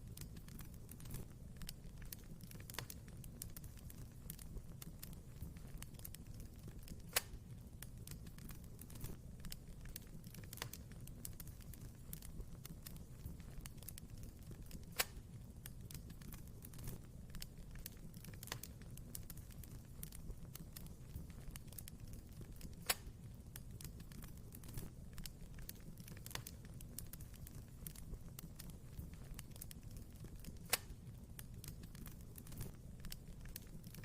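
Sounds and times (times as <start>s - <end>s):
fire pops: 0.0s - 34.0s
wood fire crackling: 0.0s - 34.0s.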